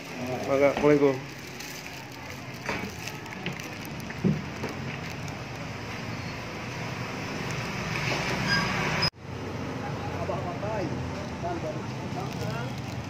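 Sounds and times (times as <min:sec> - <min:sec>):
passing traffic rush: 0:00.0 - 0:13.0.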